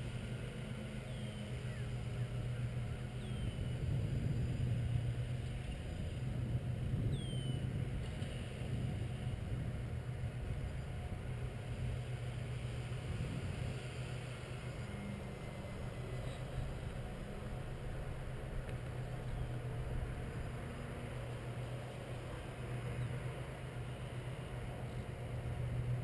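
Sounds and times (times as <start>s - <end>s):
model airplane motors droning: 0.0s - 26.0s.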